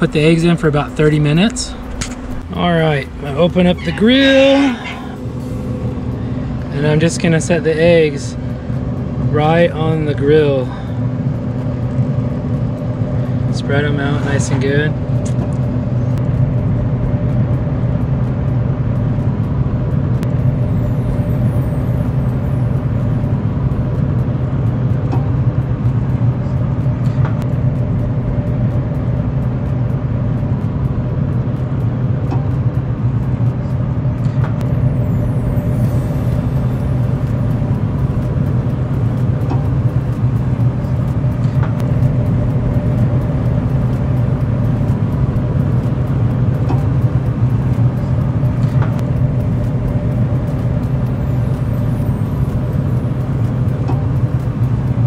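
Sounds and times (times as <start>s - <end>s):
grill fan humming: 0.0s - 55.0s.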